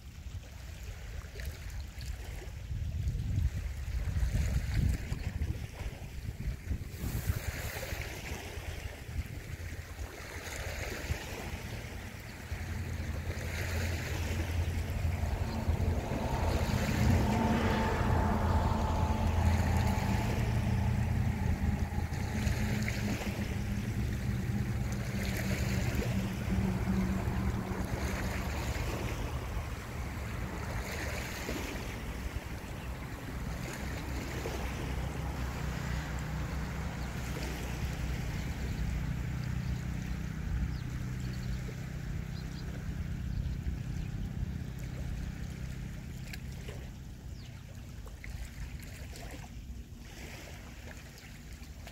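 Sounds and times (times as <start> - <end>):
distant boat engine hum: 0.0 - 51.9
small waves lapping on rocks: 0.0 - 51.9.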